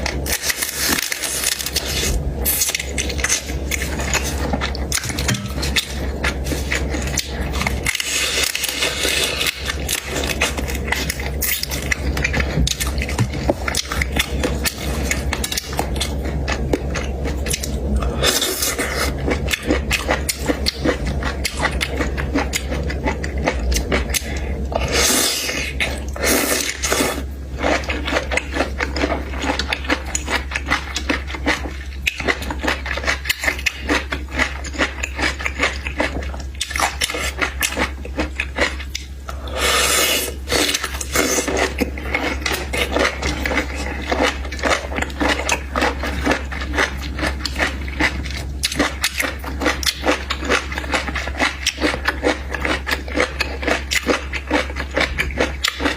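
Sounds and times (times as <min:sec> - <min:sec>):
crunching and chewing: 0:00.0 - 0:55.9
steady low hum: 0:00.0 - 0:55.9.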